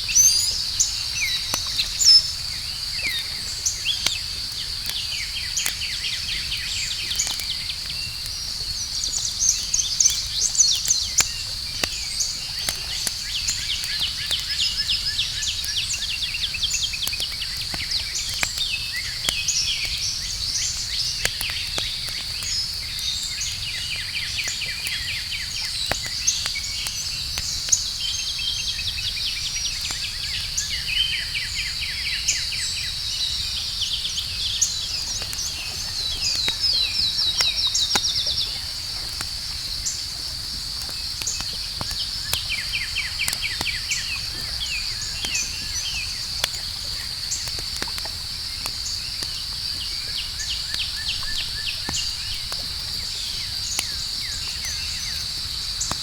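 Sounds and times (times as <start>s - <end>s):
campfire crackling and popping: 0.0s - 56.0s
night insects droning and chirping: 0.0s - 56.0s.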